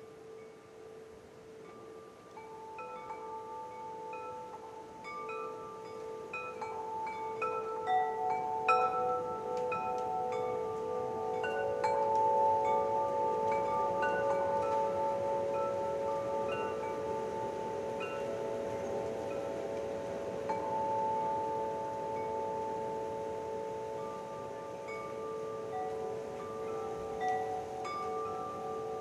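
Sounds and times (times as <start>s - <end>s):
faint steady hiss: 0.0s - 29.0s
wind chimes ringing: 0.0s - 29.0s.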